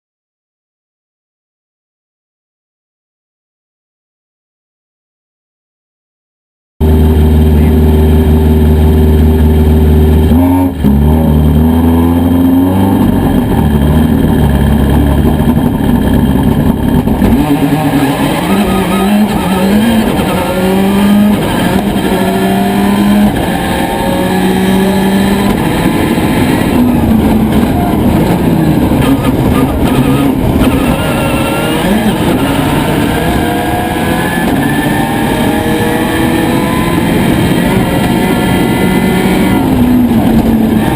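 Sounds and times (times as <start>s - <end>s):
rally car engine revving: 6.8s - 40.9s.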